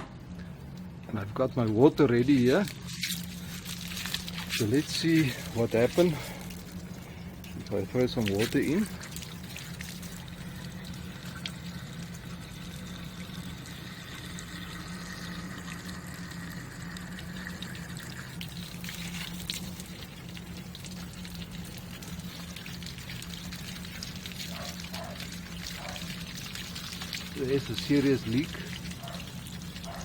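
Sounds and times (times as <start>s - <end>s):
steady low hum: 0.0s - 30.0s
water pouring and trickling: 0.6s - 30.0s.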